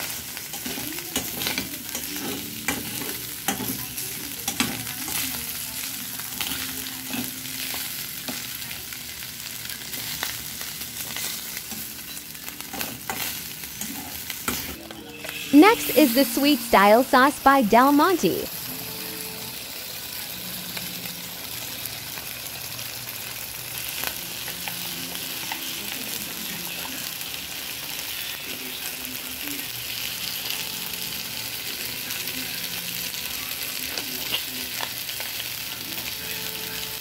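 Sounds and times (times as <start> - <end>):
sauce sizzling in frying pan: 0.0 - 37.0.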